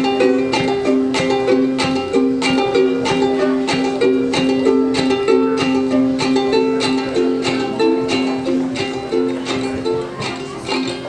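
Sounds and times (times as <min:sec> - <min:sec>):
ukulele strumming chords: 0:00.0 - 0:11.0.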